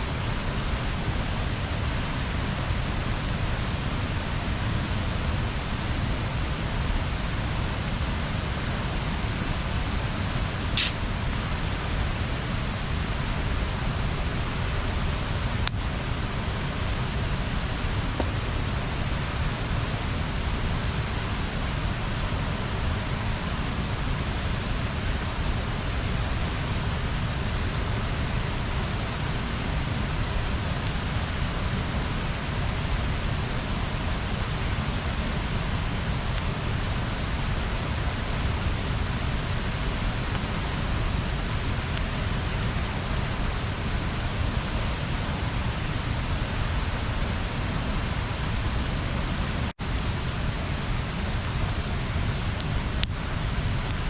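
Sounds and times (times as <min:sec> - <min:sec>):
bonfire hissing: 0:00.0 - 0:54.0
faint fire crackles: 0:00.0 - 0:54.0.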